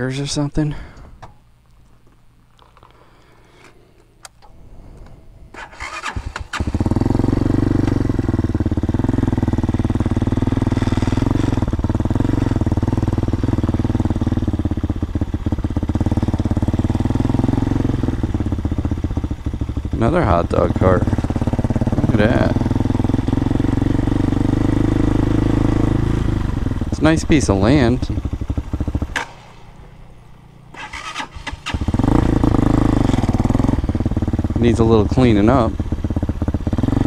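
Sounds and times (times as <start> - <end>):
motorcycle engine starting and running: 2.0 - 37.0.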